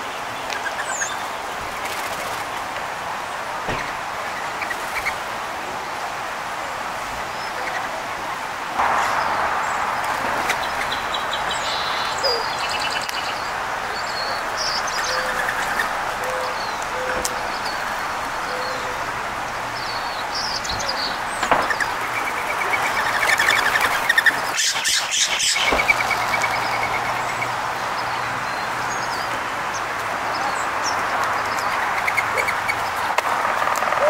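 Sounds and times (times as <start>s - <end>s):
songbirds chirping: 0.0s - 34.0s
steady background rush: 0.3s - 34.0s.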